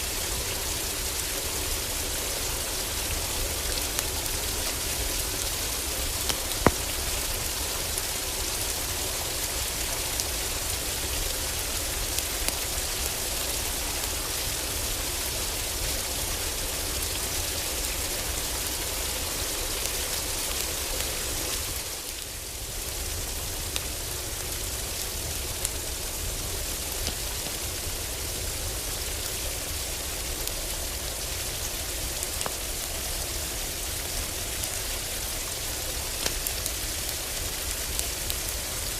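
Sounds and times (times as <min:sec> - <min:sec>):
heavy rain on a roof: 0:00.0 - 0:38.9
wood fire crackling: 0:00.1 - 0:38.9.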